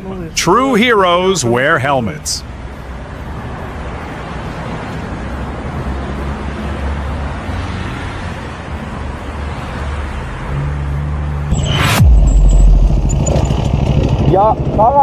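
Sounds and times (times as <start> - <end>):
vehicle engine humming: 0.0 - 15.0
wind and road noise: 0.0 - 15.0.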